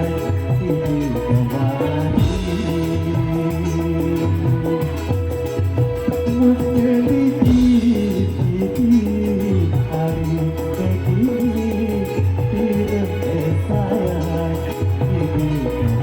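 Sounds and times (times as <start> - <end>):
plucked-string melody: 0.0 - 16.0
strong bass: 0.0 - 16.0
sustained chords: 0.0 - 16.0.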